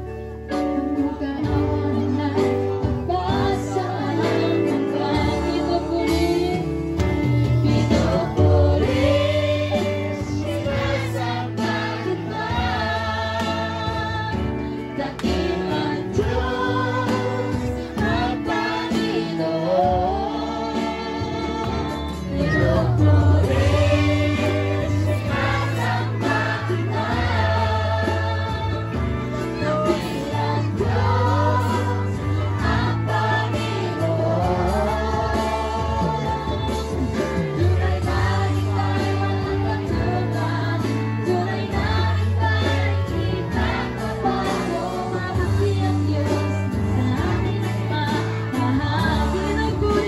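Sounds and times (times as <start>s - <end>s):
band playing: 0.0s - 50.0s
group singing worship song: 0.0s - 50.0s
steady bass line: 1.1s - 50.0s.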